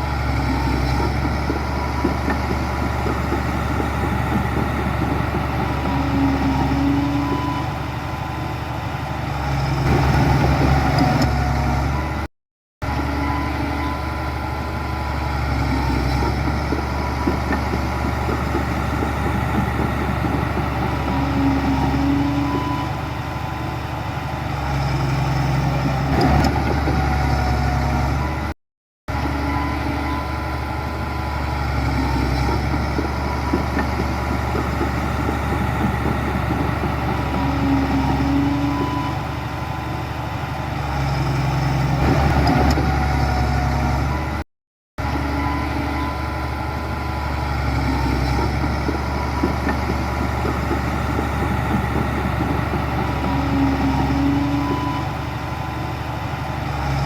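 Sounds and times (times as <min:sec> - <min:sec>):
heavy diesel engines running: 0:00.0 - 0:44.4, 0:45.0 - 0:57.0.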